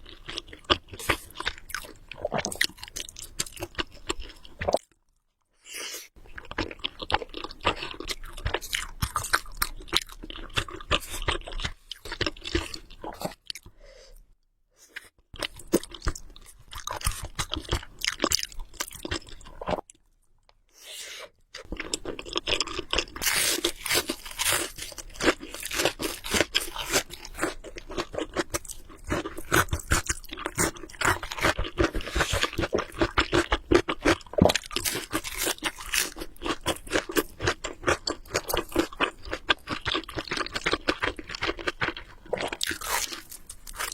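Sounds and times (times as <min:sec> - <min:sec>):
chewing noodles: 0:06.2 - 0:13.7, 0:15.0 - 0:20.5, 0:21.4 - 0:43.9.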